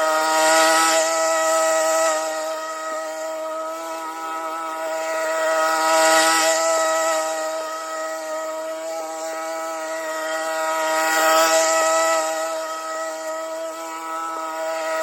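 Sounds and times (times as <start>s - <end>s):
hedge trimmer motor running: 0.0s - 15.0s.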